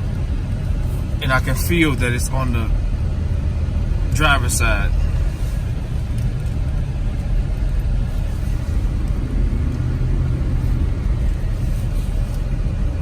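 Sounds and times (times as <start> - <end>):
road and drivetrain rumble in cab: 0.0 - 13.0.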